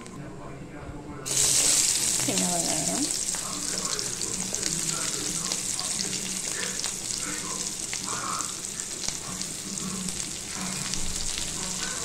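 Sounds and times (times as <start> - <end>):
shallots sizzling in oil: 1.3 - 12.0.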